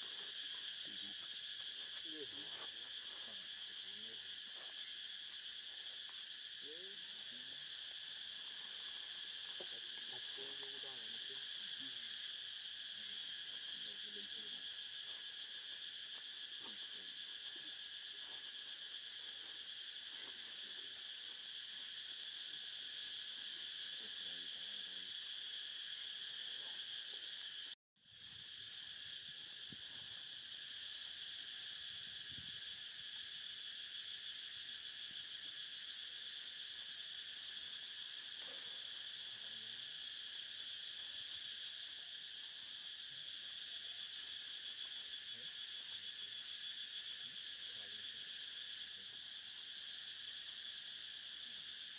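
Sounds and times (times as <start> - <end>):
insect chorus drone: 0.0 - 51.9.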